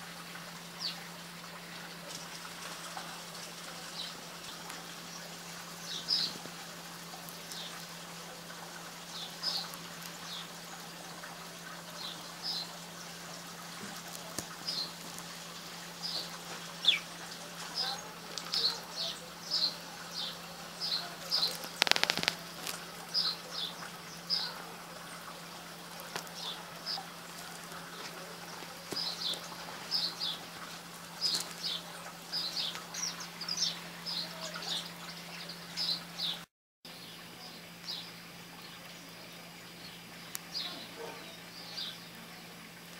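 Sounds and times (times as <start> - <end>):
faint steady hum: 0.0 - 42.9
sparrows chirping: 0.8 - 36.4, 37.0 - 42.5.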